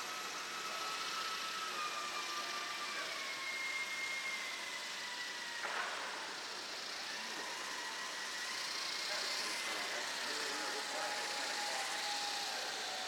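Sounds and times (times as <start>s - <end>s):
model aircraft electric motor whining: 0.0s - 13.0s.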